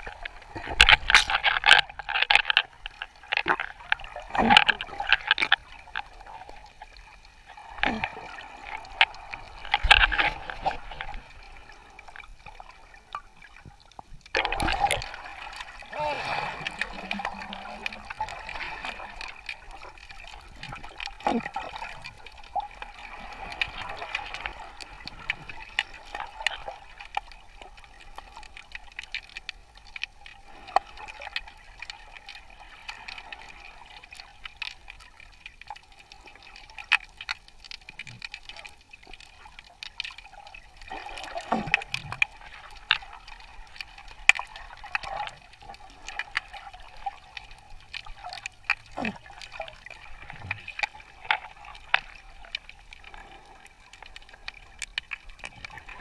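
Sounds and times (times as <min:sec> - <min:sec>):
underwater clicks and crackles: 0:00.0 - 0:56.0
water gurgles: 0:00.0 - 0:56.0.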